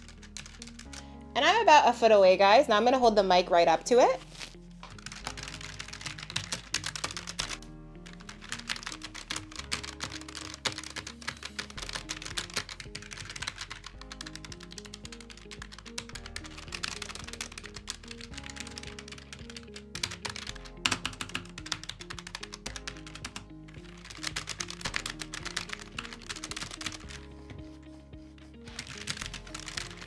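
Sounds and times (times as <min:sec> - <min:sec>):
fast typing on mechanical keyboard: 0:00.0 - 0:01.0, 0:05.0 - 0:27.6, 0:28.6 - 0:30.0
background music: 0:00.0 - 0:30.0.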